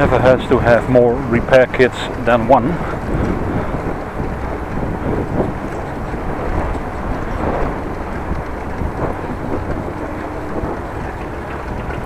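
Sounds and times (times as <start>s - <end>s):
road noise: 0.0s - 12.0s
wind rumbling on microphone: 0.0s - 12.0s.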